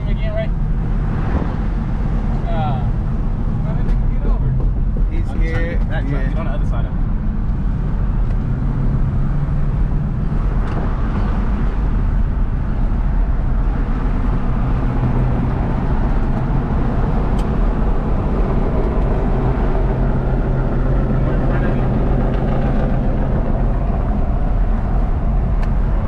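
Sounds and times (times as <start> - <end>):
car engine hum: 0.0 - 26.0
road and wind noise: 0.0 - 26.0.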